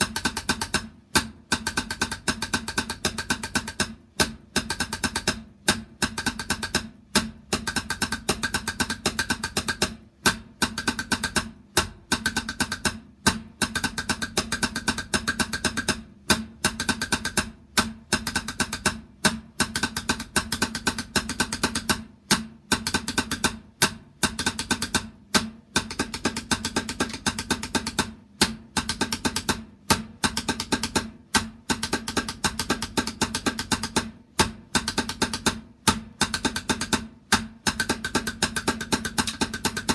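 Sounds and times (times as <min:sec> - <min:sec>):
drum played in fast strokes: 0:00.0 - 0:39.9.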